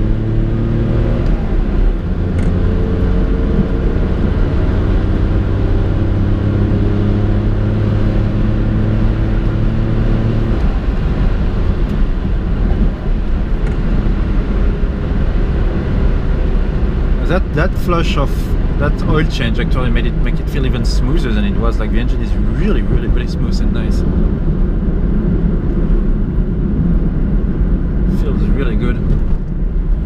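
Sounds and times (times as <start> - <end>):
car engine hum: 0.0 - 30.0
tyre and road rumble: 0.0 - 30.0.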